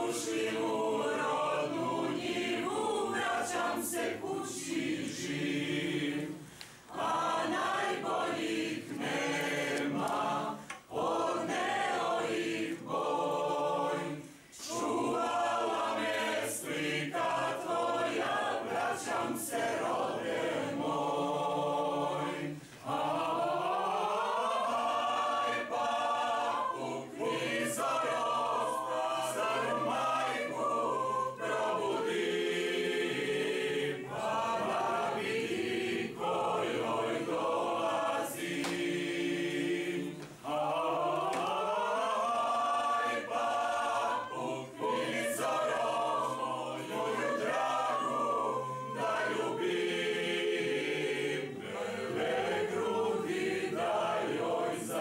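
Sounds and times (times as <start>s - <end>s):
mixed choir singing unaccompanied: 0.0s - 55.0s.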